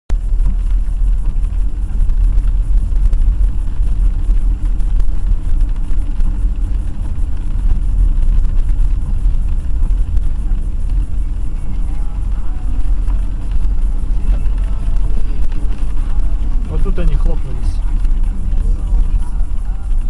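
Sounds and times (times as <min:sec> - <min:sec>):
car engine and road noise: 0:00.1 - 0:20.0.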